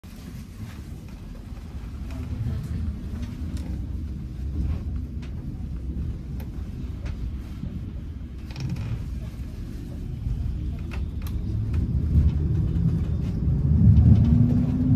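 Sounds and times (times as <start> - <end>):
tram wheels rumbling: 0.0 - 14.9.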